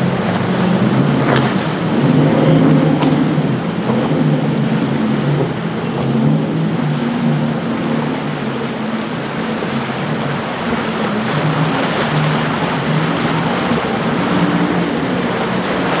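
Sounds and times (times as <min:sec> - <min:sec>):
outboard engines humming: 0:00.0 - 0:16.0
waves and spray rushing: 0:00.0 - 0:16.0.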